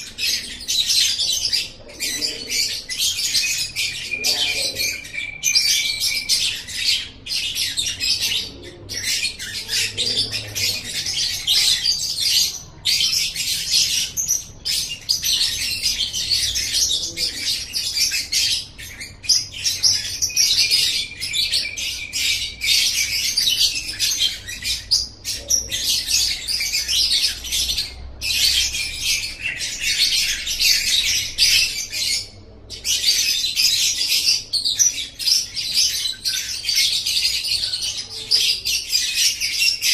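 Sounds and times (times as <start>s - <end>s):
bird high-pitched chattering: 0.0s - 39.9s.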